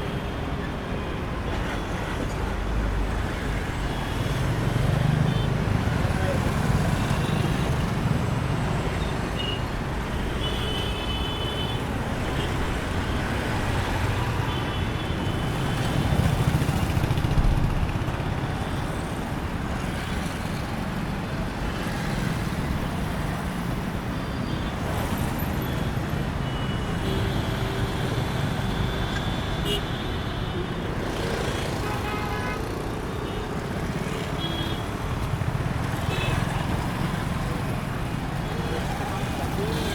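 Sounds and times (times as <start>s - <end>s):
street traffic rumble: 0.0s - 39.9s.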